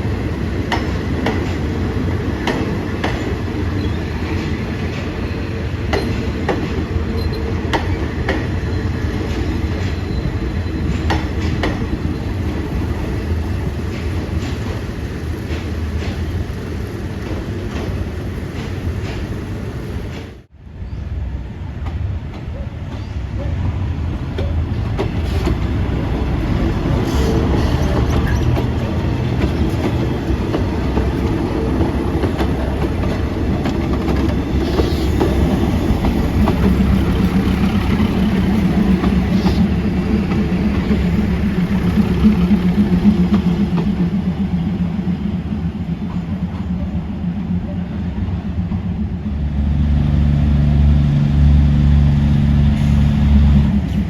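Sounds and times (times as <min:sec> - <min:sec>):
train wheels clattering on rails: 0:00.0 - 0:20.5, 0:21.8 - 0:54.0
train engine drone: 0:00.0 - 0:54.0.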